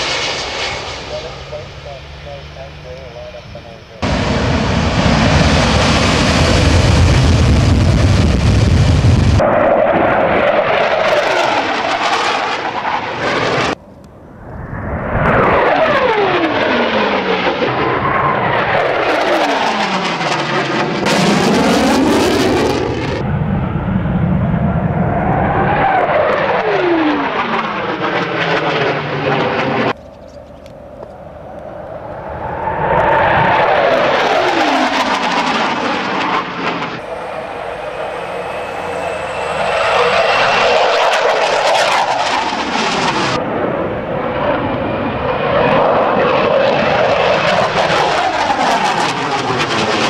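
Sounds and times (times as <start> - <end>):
jet engine rumble on takeoff: 0.0 - 50.0
jet flying past overhead: 0.0 - 50.0.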